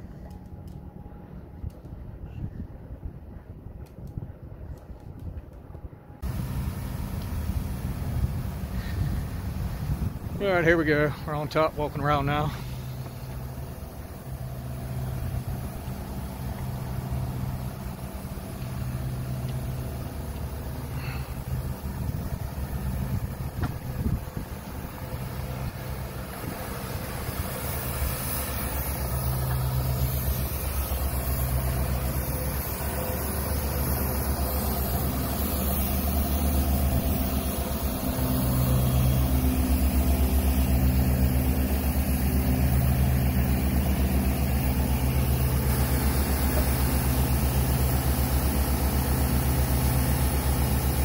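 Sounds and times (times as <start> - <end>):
generator humming: 6.2 - 51.0.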